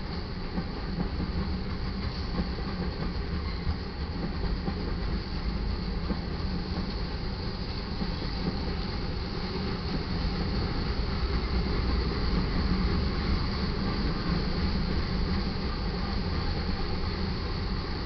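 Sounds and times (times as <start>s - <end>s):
train cars rolling on rails: 0.0s - 18.0s.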